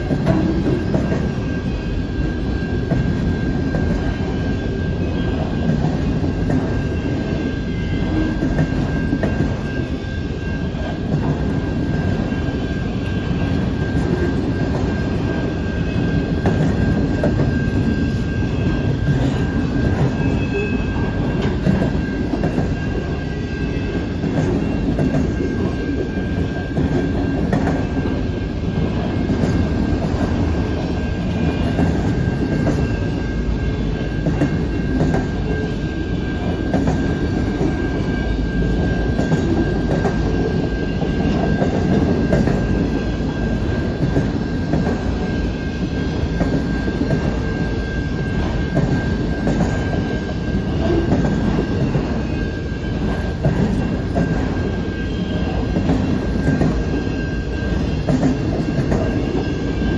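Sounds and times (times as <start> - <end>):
wheels clicking over rail joints: 0.0 - 4.4, 10.7 - 33.2, 33.8 - 57.0, 57.6 - 59.9
steel wheels rumbling on rail: 0.0 - 59.9.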